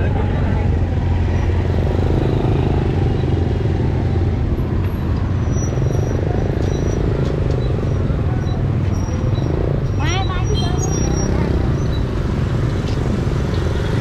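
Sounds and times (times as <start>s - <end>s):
motorbike and traffic engines: 0.0s - 14.0s.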